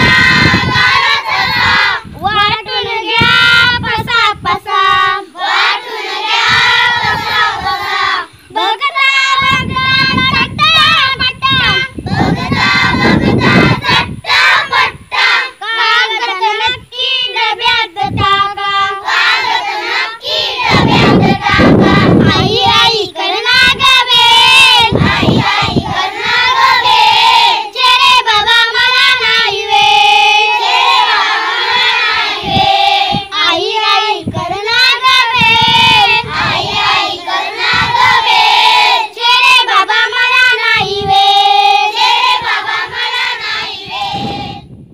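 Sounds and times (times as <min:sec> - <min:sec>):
children singing in unison: 0:00.0 - 0:44.6.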